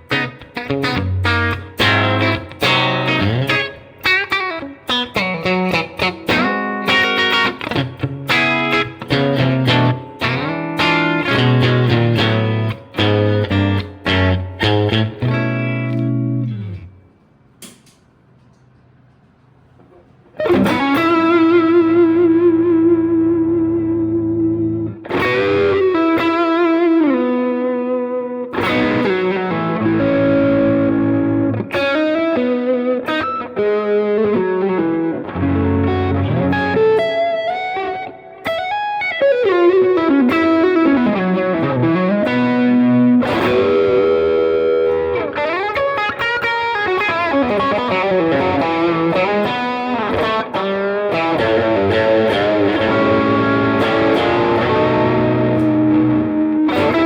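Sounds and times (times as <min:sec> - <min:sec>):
electric guitar with bent notes: 0:00.0 - 0:18.0, 0:19.9 - 0:57.0.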